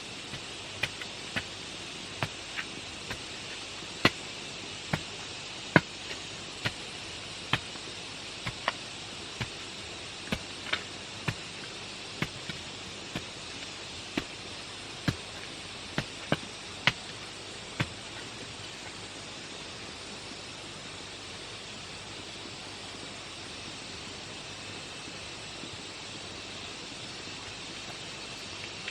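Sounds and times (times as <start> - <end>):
forest insects hissing: 0.0 - 28.9.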